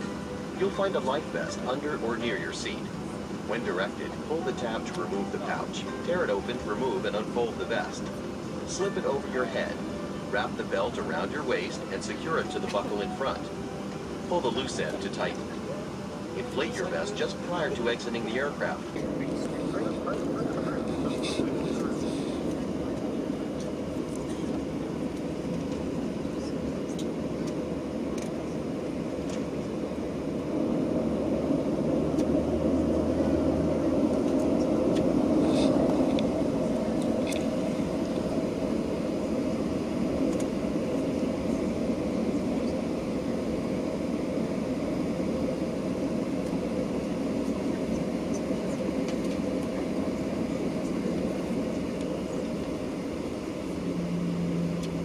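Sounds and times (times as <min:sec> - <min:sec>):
aircraft cabin engine rush: 0:00.0 - 0:55.0.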